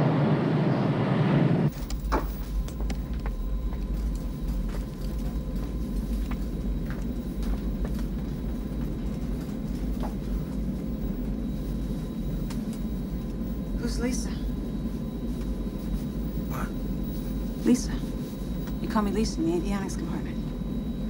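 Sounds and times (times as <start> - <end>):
airliner cabin rumble: 0.0 - 21.0
faint steady hum: 0.0 - 21.0.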